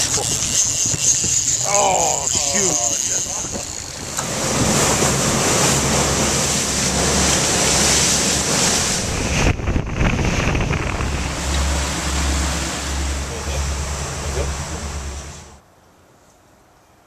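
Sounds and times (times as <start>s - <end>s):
wind buffeting microphone: 0.0s - 15.5s
boat engine drone: 0.0s - 15.6s
rush of wake and spray: 0.0s - 15.6s.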